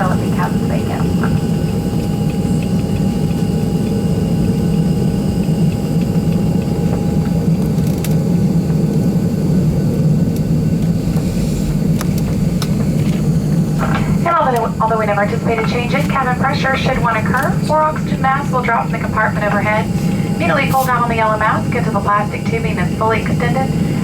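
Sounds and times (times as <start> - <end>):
airliner cabin drone: 0.0 - 24.0.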